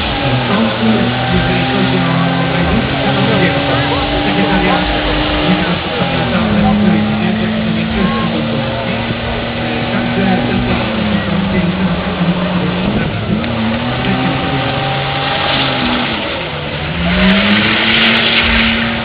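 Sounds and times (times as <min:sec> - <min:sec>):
car engine revving high: 0:00.0 - 0:19.0
tyres squealing: 0:00.0 - 0:19.0.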